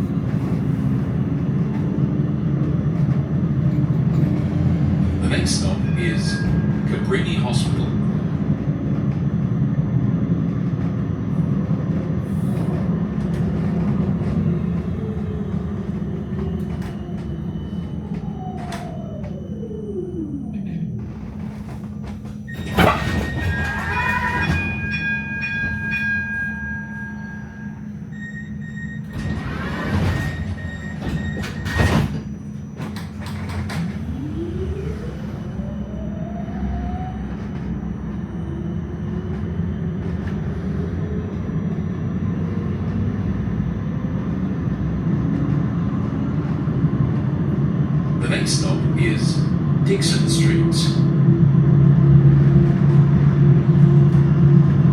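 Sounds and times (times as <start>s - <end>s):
tram rumbling on tracks: 0.0s - 54.9s.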